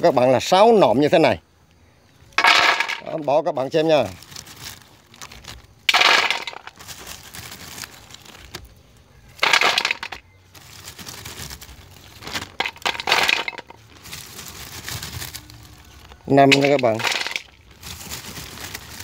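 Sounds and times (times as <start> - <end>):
dry bark pieces rattling: 2.4 - 19.0.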